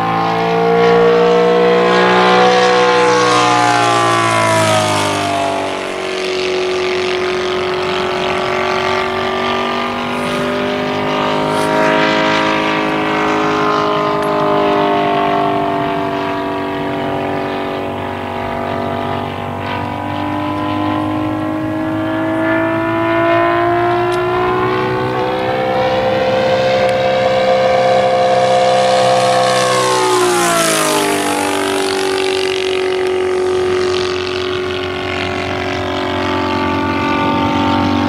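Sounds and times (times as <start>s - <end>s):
model plane engine droning: 0.0s - 38.0s.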